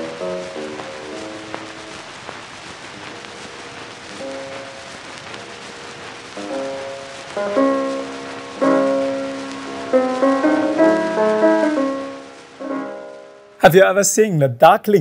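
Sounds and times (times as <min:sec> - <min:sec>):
piano chords: 0:00.0 - 0:14.2.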